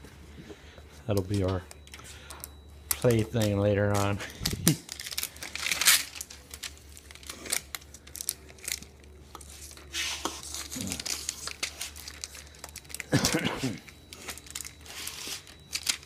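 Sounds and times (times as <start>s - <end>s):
plastic wrapping crinkling and tearing: 1.8s - 16.0s.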